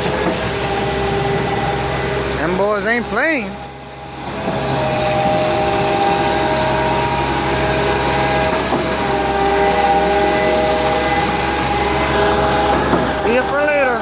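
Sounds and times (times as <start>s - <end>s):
heavy machinery engine hum: 0.0s - 14.0s.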